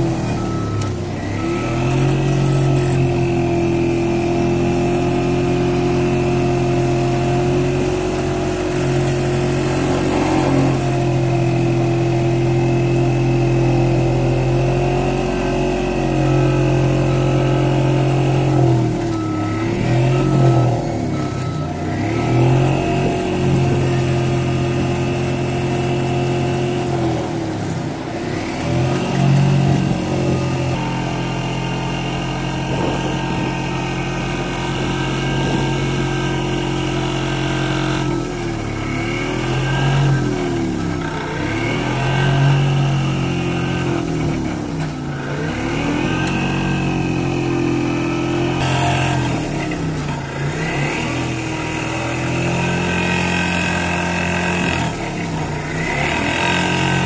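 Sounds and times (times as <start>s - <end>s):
diesel engine: 0.0s - 57.0s
vibratory pile hammer hum: 1.2s - 57.0s.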